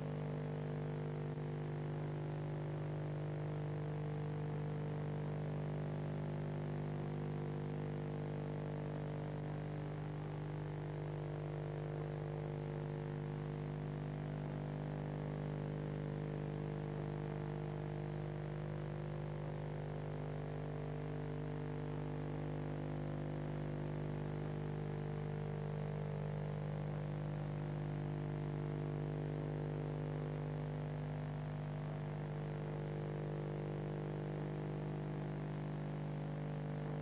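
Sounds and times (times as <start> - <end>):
steady electrical hum: 0.0 - 37.0.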